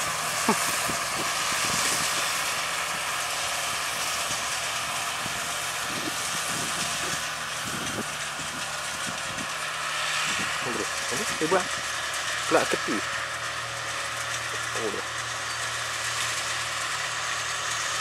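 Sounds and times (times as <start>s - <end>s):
tractor engine and baler running: 0.0s - 18.0s.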